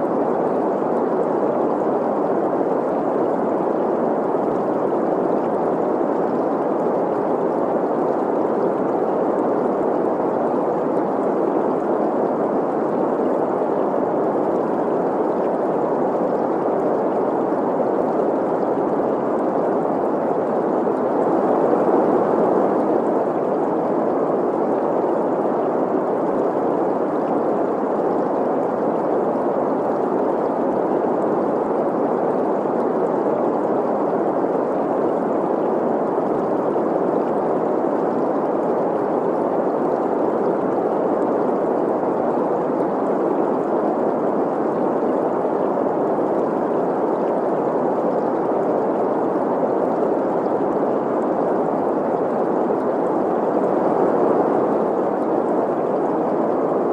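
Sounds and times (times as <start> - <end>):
flowing stream: 0.0 - 56.9.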